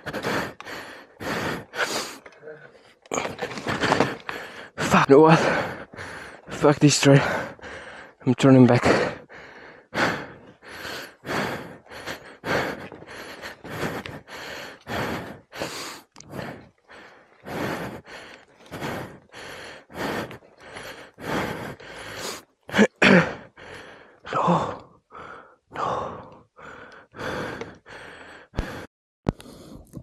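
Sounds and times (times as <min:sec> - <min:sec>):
person panting hard: 0:00.0 - 0:08.2, 0:08.8 - 0:30.0.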